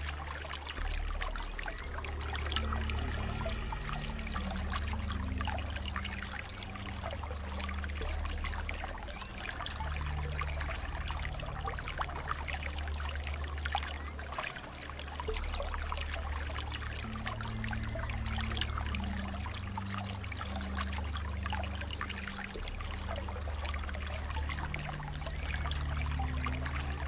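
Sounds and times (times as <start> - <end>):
low droning hum: 0.0 - 27.0
water trickling and bubbling: 0.0 - 27.0.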